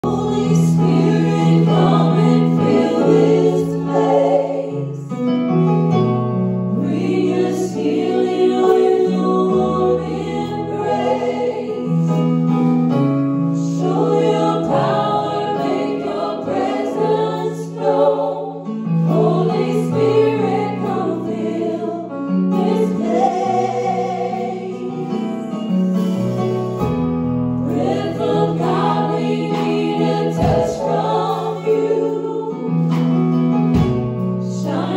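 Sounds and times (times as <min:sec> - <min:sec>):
group singing gospel in harmony: 0:00.0 - 0:05.6, 0:06.5 - 0:34.9
electric keyboard chords: 0:00.0 - 0:34.9.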